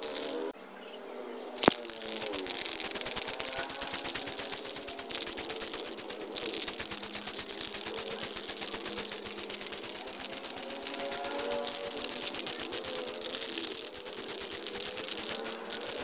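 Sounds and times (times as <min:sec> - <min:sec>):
spray can ball rattling: 0:00.0 - 0:00.5, 0:01.6 - 0:16.0.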